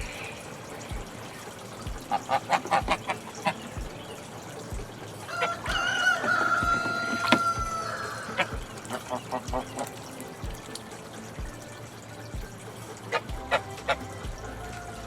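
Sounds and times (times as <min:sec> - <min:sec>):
turkeys clucking: 0:00.0 - 0:15.0.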